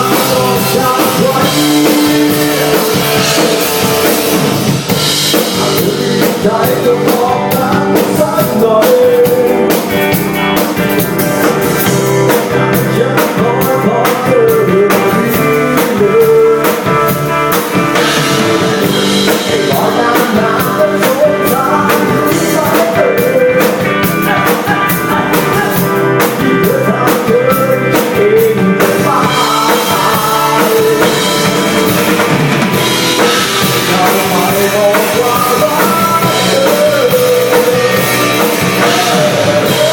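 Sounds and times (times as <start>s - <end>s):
electric guitar: 0.0s - 39.9s
live rock band playing: 0.0s - 39.9s
person singing: 0.0s - 39.9s.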